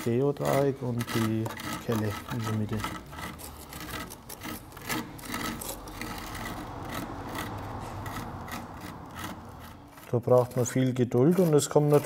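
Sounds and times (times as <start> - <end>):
tool scraping plaster: 0.0 - 12.0.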